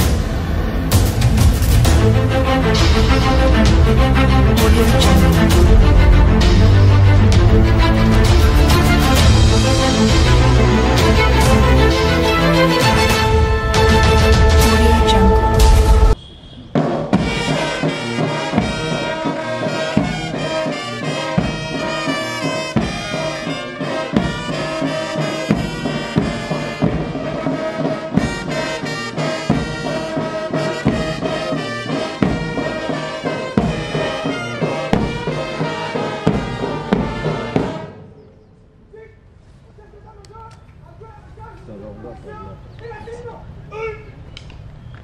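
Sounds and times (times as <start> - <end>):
bass and snare drums: 0.0 - 38.0
trumpets and trombones playing: 0.0 - 38.0.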